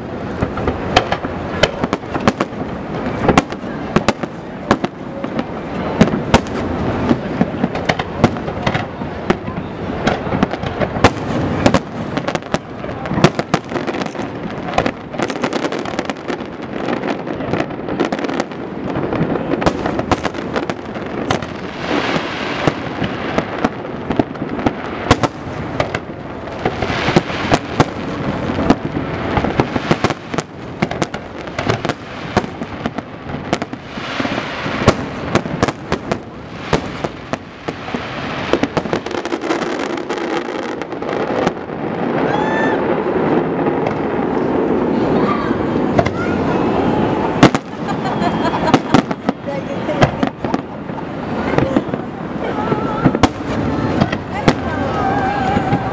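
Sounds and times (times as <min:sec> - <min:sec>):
firework bangs: 0:00.0 - 0:55.9
firework crackling: 0:00.0 - 0:55.9.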